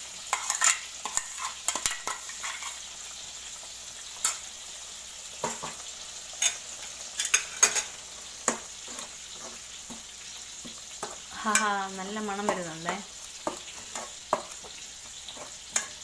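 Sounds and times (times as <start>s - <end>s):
gravy simmering with a sizzle: 0.0s - 16.0s.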